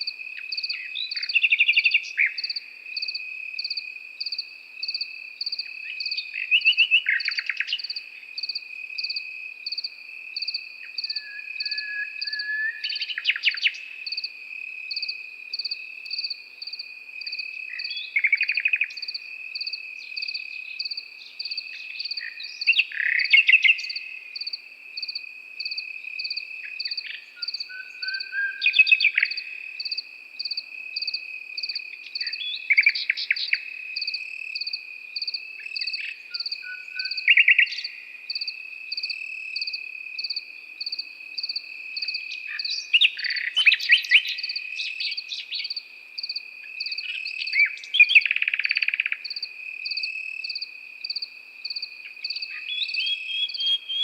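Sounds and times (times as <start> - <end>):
cricket pulsing chirp: 0.0 - 54.0
cricket steady trill: 0.0 - 54.0
nightingale singing: 0.0 - 54.0.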